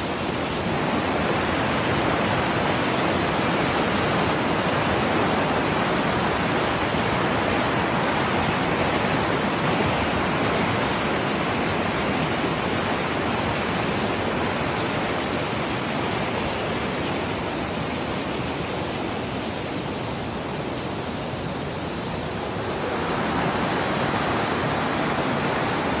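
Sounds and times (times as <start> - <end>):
river rapids roaring: 0.0 - 26.0.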